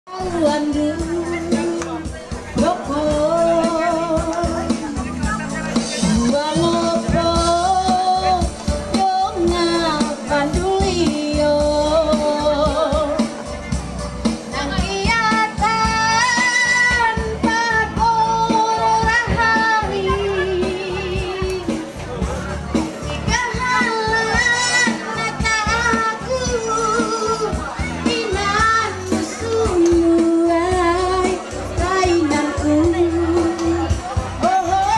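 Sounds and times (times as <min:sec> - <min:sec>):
woman singing into microphone: 0:00.1 - 0:13.8, 0:14.4 - 0:22.0, 0:23.1 - 0:34.9
backing track: 0:00.1 - 0:34.9.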